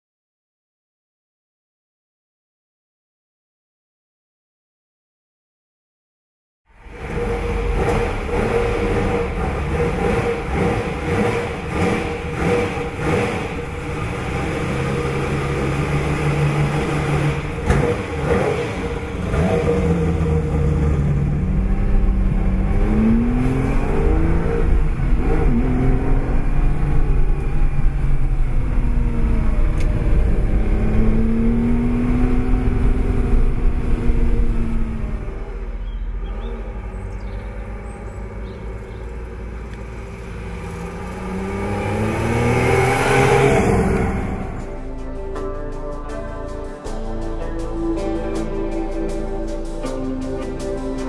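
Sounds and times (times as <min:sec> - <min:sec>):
car engine revving: 0:06.8 - 0:51.0.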